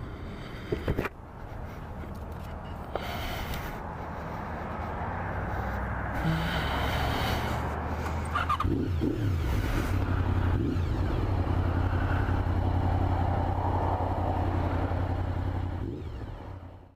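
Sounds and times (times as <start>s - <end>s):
motorbike engine humming: 0.0s - 16.9s.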